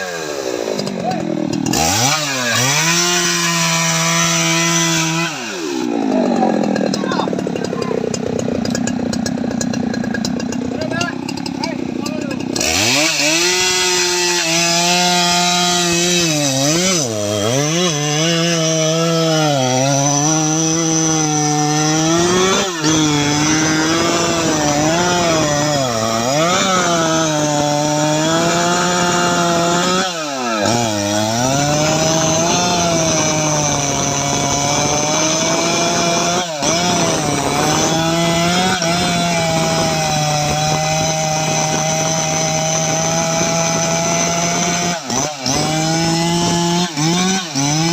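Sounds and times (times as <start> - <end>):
chainsaw running at high revs: 0.0 - 47.9.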